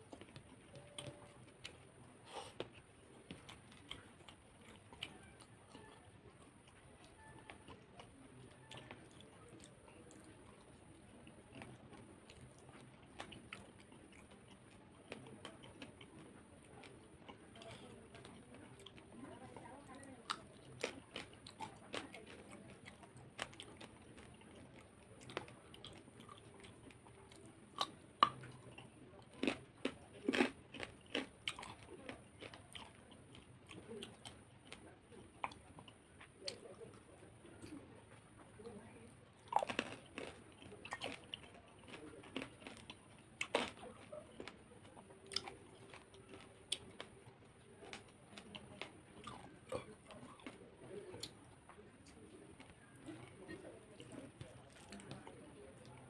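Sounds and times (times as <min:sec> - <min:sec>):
wet chewing smacks and crunches: 0:00.0 - 0:37.8, 0:39.4 - 0:56.0.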